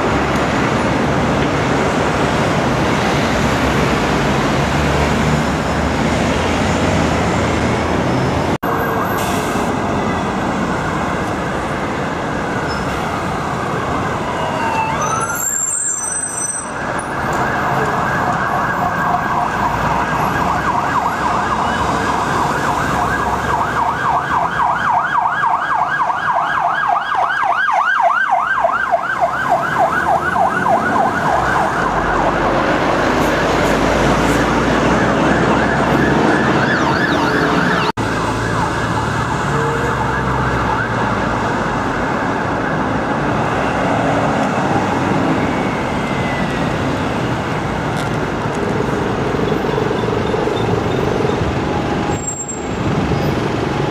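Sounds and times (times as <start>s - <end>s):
bus engines: 0.0s - 53.9s
road traffic: 0.0s - 53.9s
emergency siren wailing and yelping: 8.6s - 52.7s.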